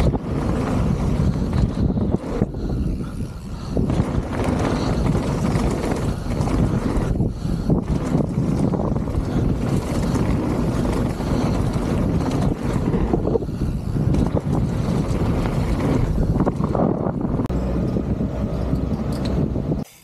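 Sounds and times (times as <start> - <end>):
bike tyres rumbling on dirt: 0.0 - 18.4
wind on microphone: 0.0 - 20.0.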